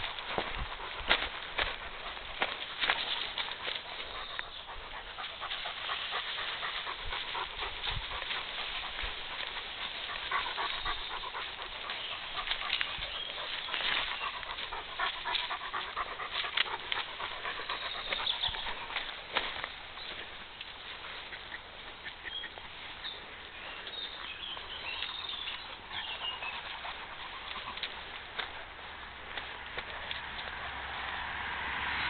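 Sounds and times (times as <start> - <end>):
dog panting: 0.0 - 30.9
rustling in grass and leaves: 0.0 - 32.0.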